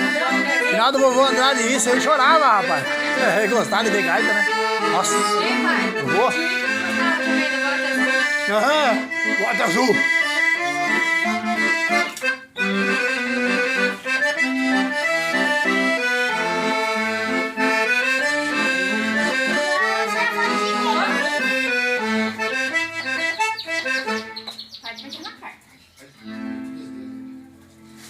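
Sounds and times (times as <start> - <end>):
accordion playing: 0.0 - 25.5, 26.2 - 28.0.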